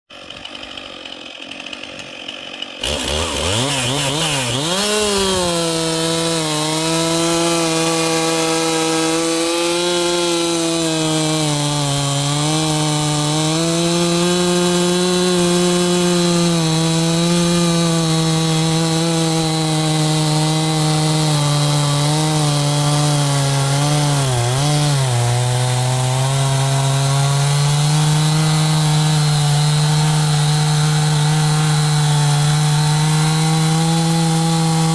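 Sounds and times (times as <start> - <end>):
chainsaw cutting wood at high revs: 0.1 - 34.9.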